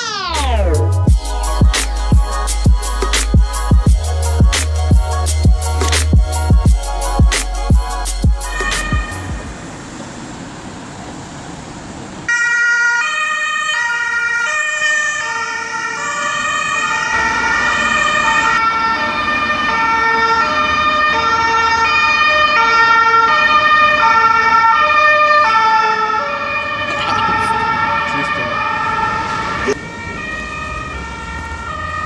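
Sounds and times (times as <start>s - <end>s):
two-tone ambulance siren: 0.0s - 10.5s, 12.2s - 32.0s
faint street traffic: 0.0s - 32.0s.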